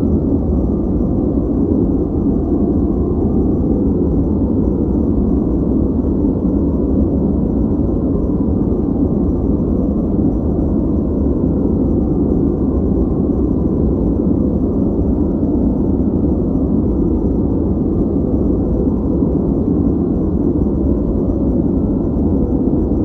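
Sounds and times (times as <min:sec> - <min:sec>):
deep rushing white noise: 0:00.0 - 0:23.0.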